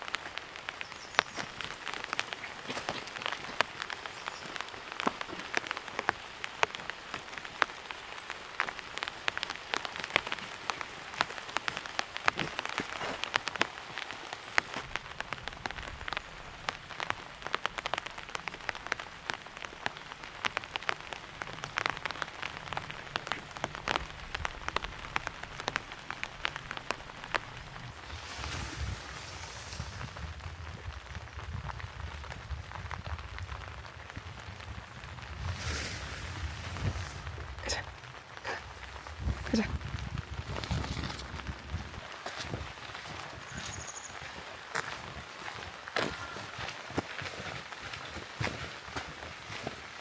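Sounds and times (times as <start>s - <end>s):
rain drops tapping: 0.0s - 50.0s.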